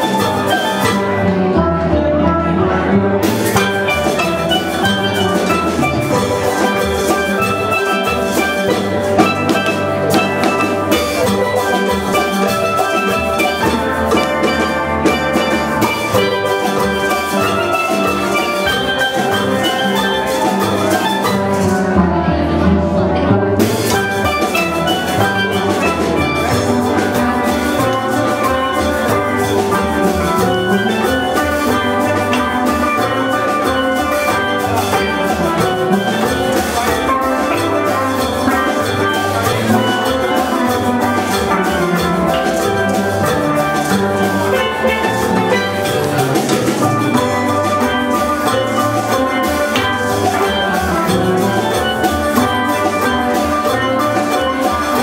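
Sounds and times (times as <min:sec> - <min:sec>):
drums: 0:00.0 - 0:55.0
steelpans playing melody: 0:00.0 - 0:55.0.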